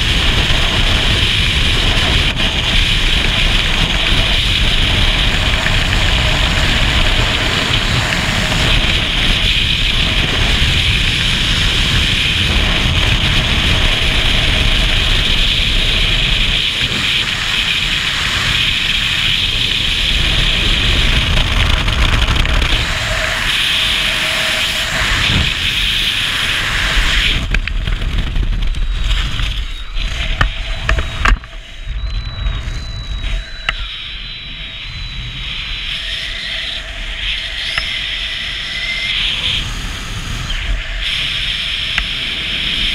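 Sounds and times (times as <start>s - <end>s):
wind rush buffeting microphone: 0.0s - 42.9s.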